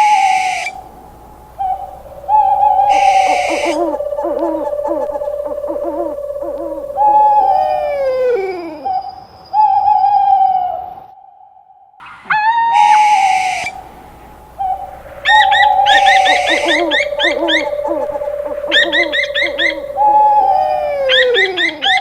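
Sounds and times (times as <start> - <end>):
owl hooting: 0.0 - 22.0.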